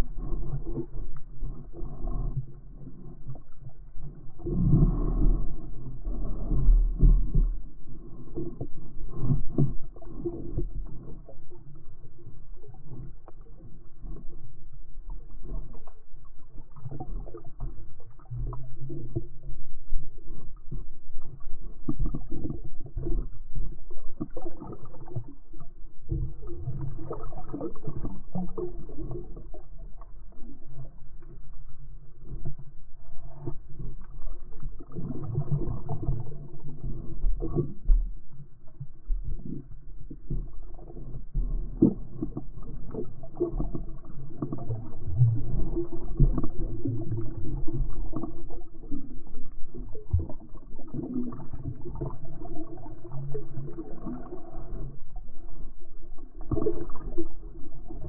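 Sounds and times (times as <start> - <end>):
muffled water sloshing: 0.0 - 58.0.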